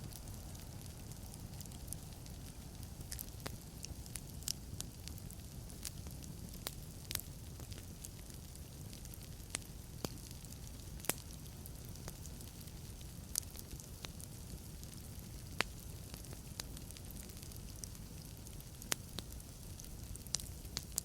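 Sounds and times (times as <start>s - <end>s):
fire rumbling: 0.0s - 21.0s
wood crackling and popping: 0.0s - 21.0s.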